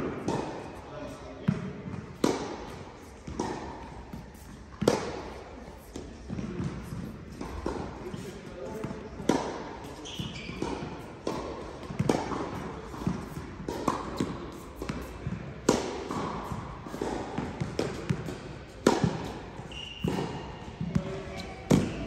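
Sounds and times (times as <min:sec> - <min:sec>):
tennis balls bouncing on court: 0:00.0 - 0:22.0
tennis balls struck by rackets: 0:00.0 - 0:22.0.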